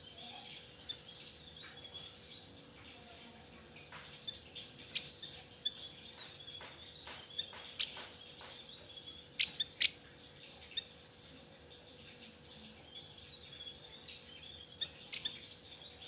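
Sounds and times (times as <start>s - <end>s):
bird chip calls: 0.1s - 2.5s, 3.8s - 11.1s, 12.6s - 16.0s.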